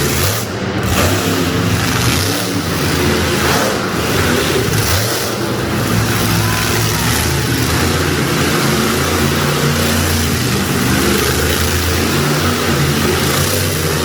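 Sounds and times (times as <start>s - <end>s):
truck engine running loud: 0.0s - 14.0s.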